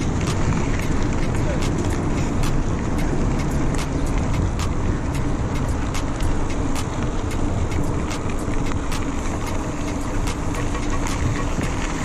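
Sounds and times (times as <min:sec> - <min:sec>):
motorcycle engine hum: 0:00.0 - 0:12.0
wind and road noise: 0:00.0 - 0:12.0
wind crackles on microphone: 0:00.0 - 0:12.0.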